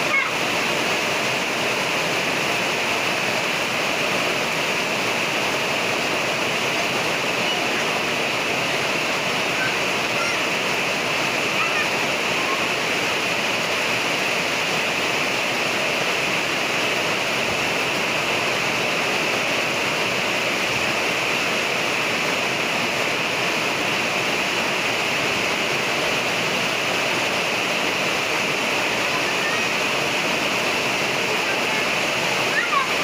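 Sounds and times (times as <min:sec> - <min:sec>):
heavy rain on wet road: 0:00.0 - 0:33.0.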